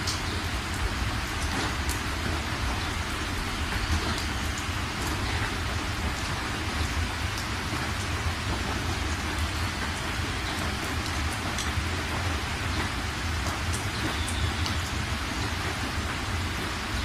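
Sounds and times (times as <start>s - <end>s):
heavy rain on car roof: 0.0s - 17.0s
raindrop ticks: 0.0s - 17.0s.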